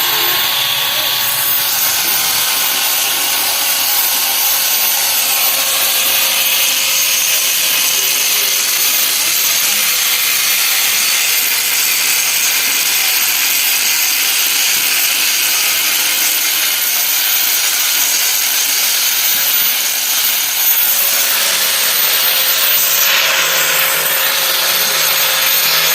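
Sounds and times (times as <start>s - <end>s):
harsh hissing of metalwork: 0.0s - 25.9s.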